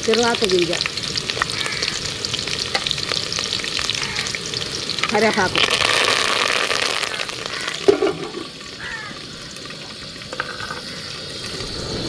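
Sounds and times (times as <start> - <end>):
leaves sizzling in hot oil: 0.0 - 12.0.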